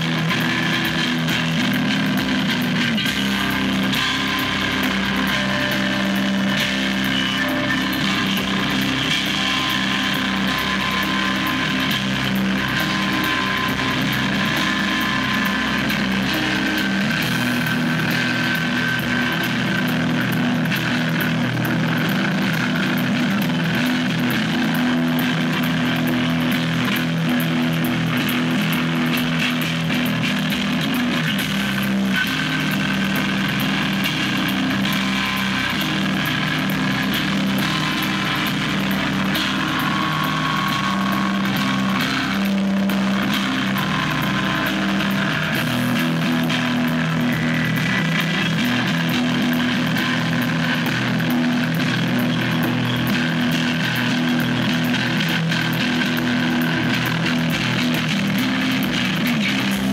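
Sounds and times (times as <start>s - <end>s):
distorted electric guitar: 0.0s - 59.9s
drums and cymbals: 0.0s - 59.9s.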